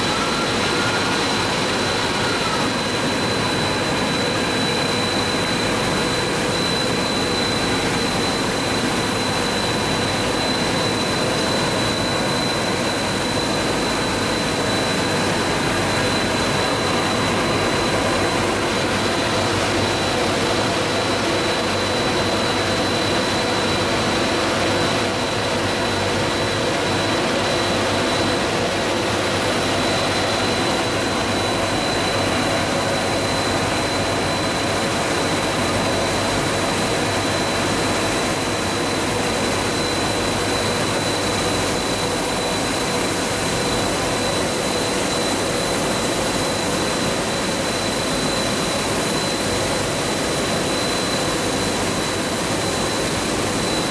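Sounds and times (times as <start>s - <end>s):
high-pitched machine whine: 0.0s - 53.9s.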